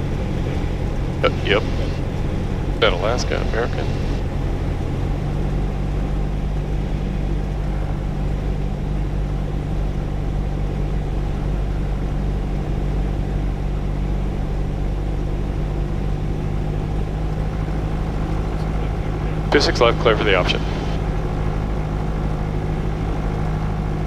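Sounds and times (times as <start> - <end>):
propeller airplane engine drone: 0.0 - 24.0.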